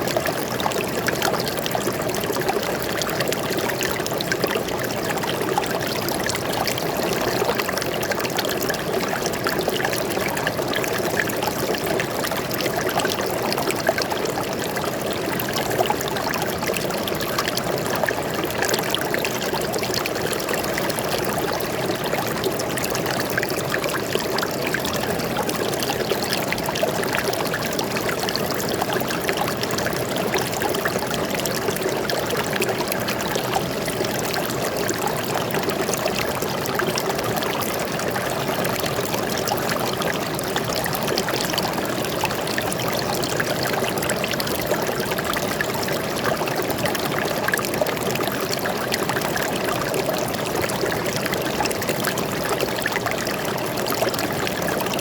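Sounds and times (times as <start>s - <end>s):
stream trickling over rocks: 0.0s - 55.0s.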